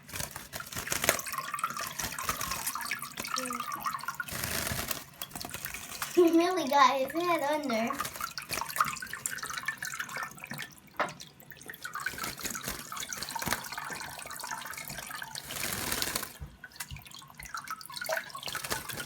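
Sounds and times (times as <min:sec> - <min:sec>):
tap water running into hands: 0:00.0 - 0:19.0
water splashing and dripping: 0:00.0 - 0:19.0.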